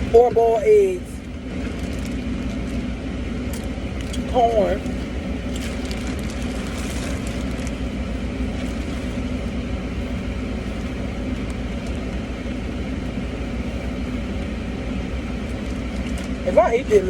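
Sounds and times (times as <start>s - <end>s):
car engine idling from inside: 0.0s - 17.0s.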